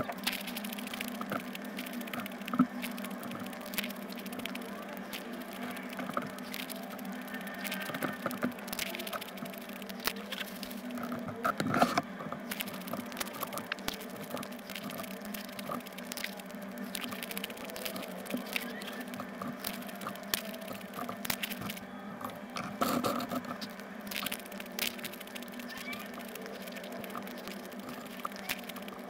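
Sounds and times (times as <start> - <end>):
crunchy food chewing: 0.0 - 29.0
wet squishing in mouth: 0.1 - 11.1, 12.4 - 21.8, 22.7 - 29.0.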